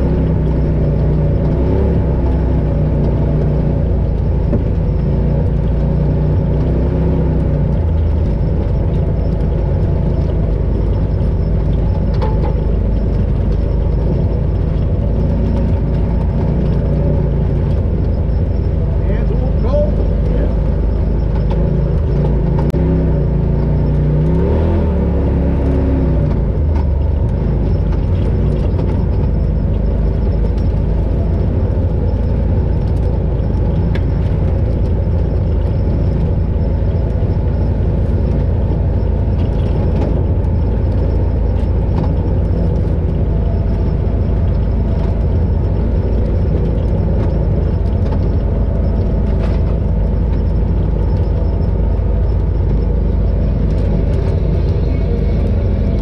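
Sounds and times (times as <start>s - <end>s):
off-road vehicle engine drone: 0.0s - 56.0s.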